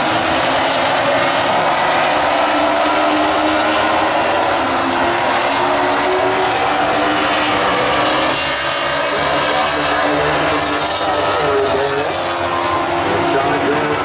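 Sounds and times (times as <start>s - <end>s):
racing car engines droning: 0.0s - 14.0s.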